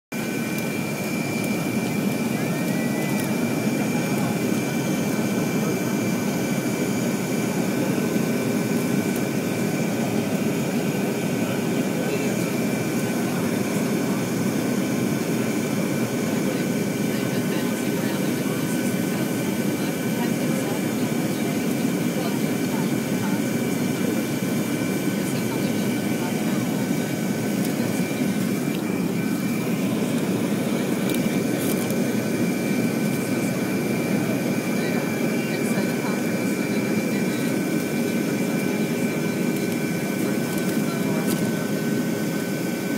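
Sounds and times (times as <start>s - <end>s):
jet engines rumbling with high whine: 0.1s - 42.9s.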